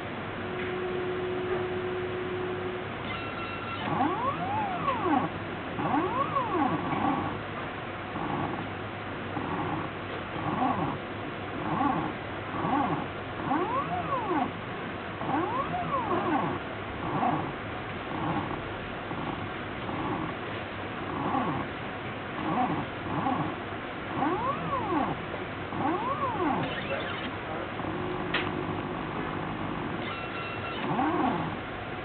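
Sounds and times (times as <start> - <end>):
stepper motors whining: 0.6 - 7.4, 8.1 - 8.7, 9.4 - 11.0, 11.6 - 14.6, 15.2 - 20.4, 21.0 - 21.7, 22.4 - 31.7.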